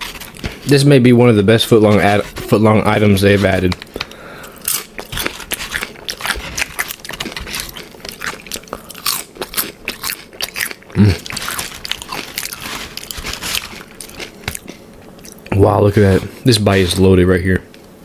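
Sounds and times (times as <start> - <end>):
crunching and chewing chips: 0.0 - 17.2.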